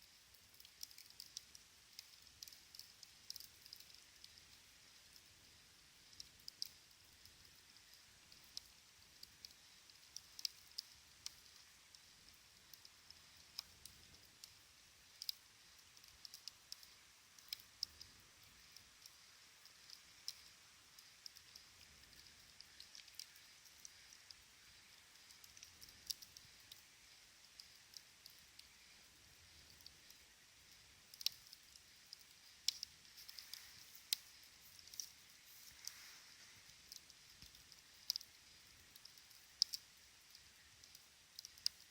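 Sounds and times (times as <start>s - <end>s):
campfire crackling and popping: 0.4s - 24.5s, 25.1s - 28.7s, 29.3s - 41.9s.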